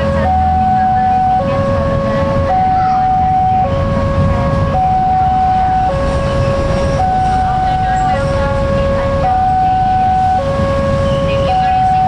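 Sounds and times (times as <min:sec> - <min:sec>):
level-crossing two-tone alarm: 0:00.0 - 0:12.0
low rumble: 0:00.0 - 0:12.0.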